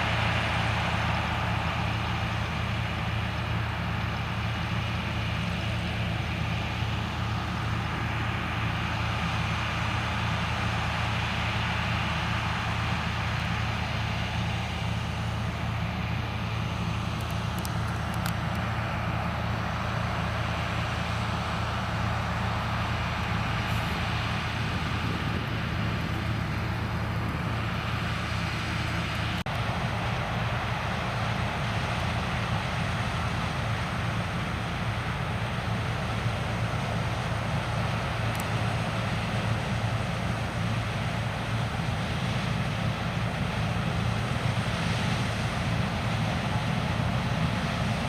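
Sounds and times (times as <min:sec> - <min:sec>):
diesel engine drone: 0:00.0 - 0:48.0.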